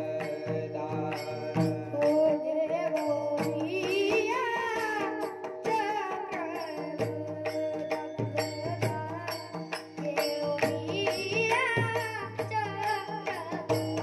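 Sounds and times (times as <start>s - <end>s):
percussion strokes: 0.0s - 14.0s
person singing: 0.0s - 14.0s.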